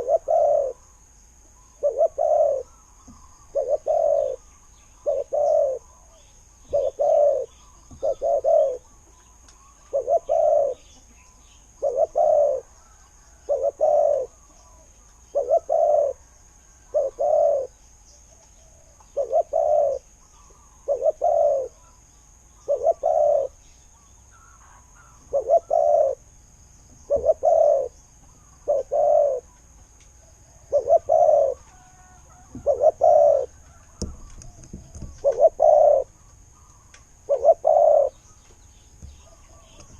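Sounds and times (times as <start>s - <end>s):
dove cooing: 0.0s - 1.0s, 1.7s - 17.8s, 18.7s - 22.0s, 22.6s - 23.6s, 24.3s - 26.2s, 27.0s - 29.6s, 30.5s - 38.4s.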